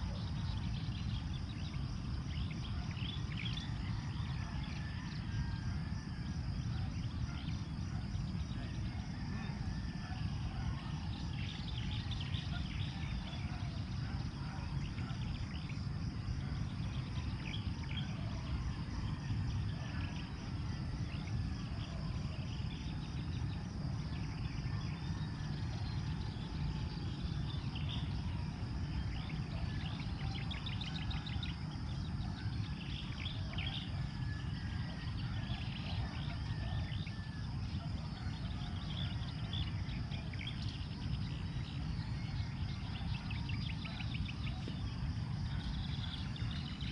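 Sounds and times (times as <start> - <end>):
high insect trill: 0.0 - 46.9
birds chirping: 7.1 - 46.9.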